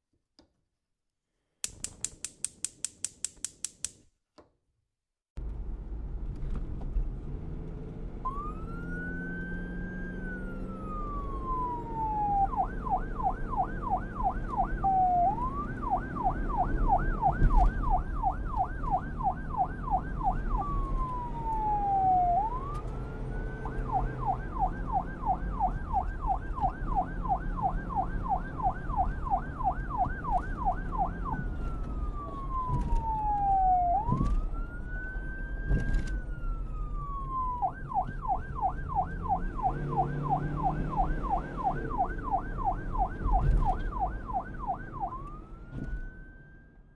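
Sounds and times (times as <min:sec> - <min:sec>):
police siren wail and yelp: 0:08.2 - 0:46.9.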